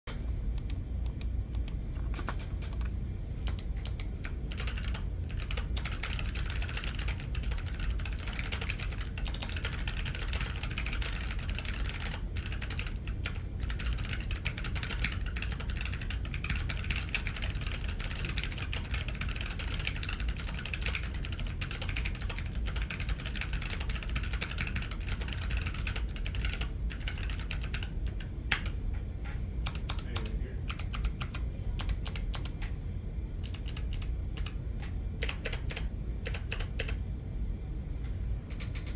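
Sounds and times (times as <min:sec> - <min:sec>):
fast clicky keyboard typing: 0:00.6 - 0:28.8, 0:29.6 - 0:32.7, 0:33.4 - 0:34.6, 0:35.2 - 0:37.0, 0:38.5 - 0:38.9.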